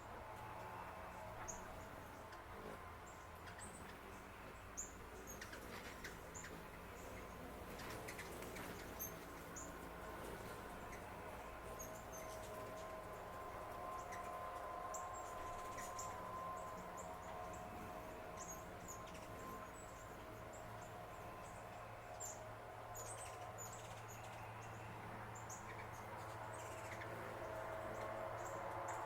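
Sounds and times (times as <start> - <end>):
faint steady tones: 0.0 - 29.0
steady low hum: 0.0 - 29.0
small birds chirping: 1.4 - 29.0.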